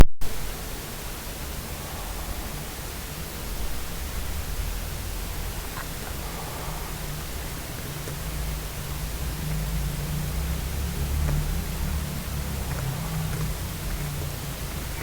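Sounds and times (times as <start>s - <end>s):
low hum: 0.0s - 15.0s
steady hiss: 0.2s - 15.0s.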